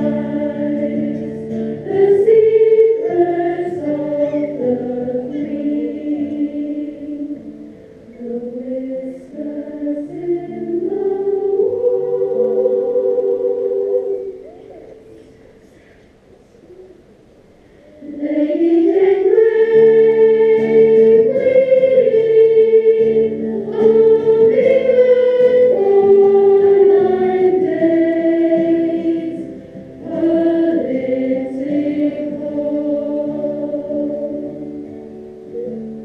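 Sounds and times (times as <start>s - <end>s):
choir singing sustained chords: 0.0s - 16.0s, 17.2s - 36.0s.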